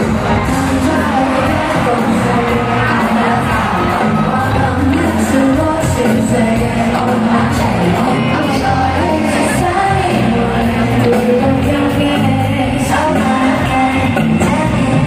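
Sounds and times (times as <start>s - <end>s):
live pop song over pa: 0.0s - 15.0s.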